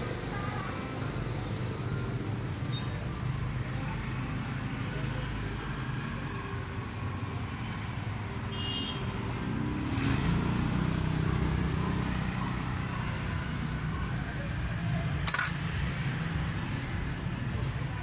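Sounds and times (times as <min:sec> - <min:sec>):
motorbike engines in traffic: 0:00.0 - 0:18.0.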